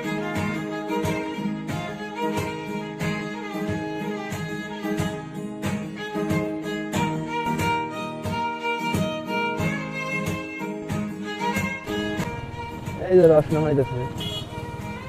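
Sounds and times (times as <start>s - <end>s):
bowed string melody: 0.0s - 15.0s
steady beat: 0.1s - 15.0s.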